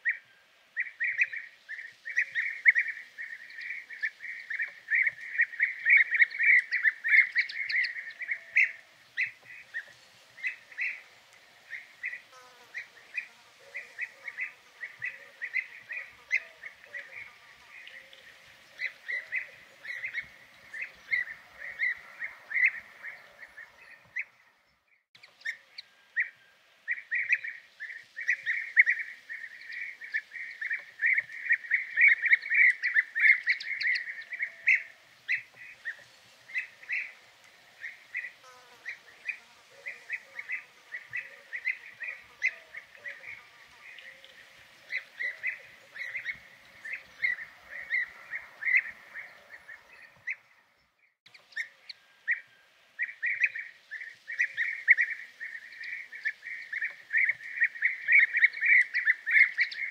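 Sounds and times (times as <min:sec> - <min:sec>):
birds rolling liquid calls: 0:00.8 - 0:24.3, 0:25.2 - 0:50.4, 0:51.3 - 0:59.9.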